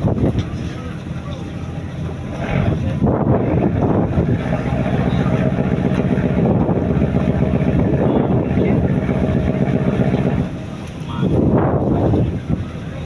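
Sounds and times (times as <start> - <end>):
boat diesel engine running: 0.0 - 13.0.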